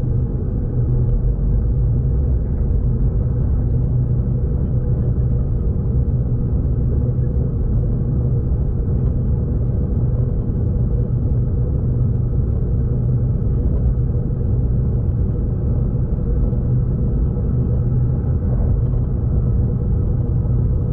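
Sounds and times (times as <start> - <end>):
train rumble from on board: 0.0 - 20.9.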